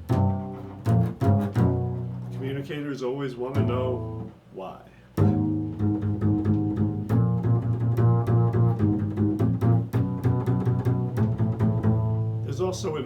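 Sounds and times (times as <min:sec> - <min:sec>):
plucked low strings: 0:00.0 - 0:02.6, 0:03.5 - 0:04.4, 0:05.2 - 0:13.0
bowed low string tones: 0:00.0 - 0:02.8, 0:03.4 - 0:04.4, 0:05.2 - 0:13.0.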